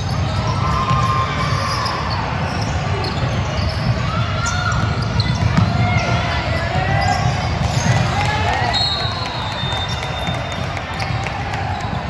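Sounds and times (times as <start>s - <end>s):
basketballs bouncing on court: 0.0s - 12.0s.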